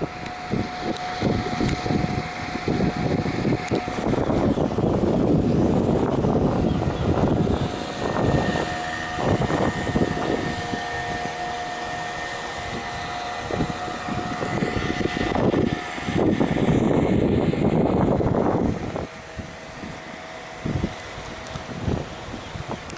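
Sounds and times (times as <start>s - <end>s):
boat engine running: 0.0s - 22.9s
wind buffeting microphone: 0.0s - 22.9s.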